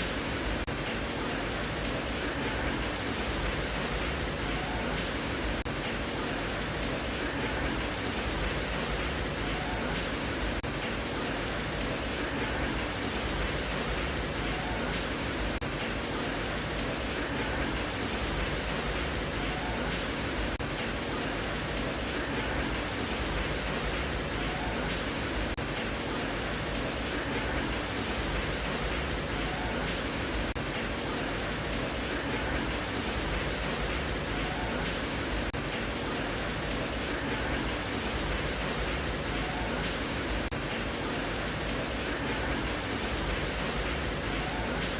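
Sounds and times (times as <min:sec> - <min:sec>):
heavy rain hissing: 0:00.0 - 0:44.9.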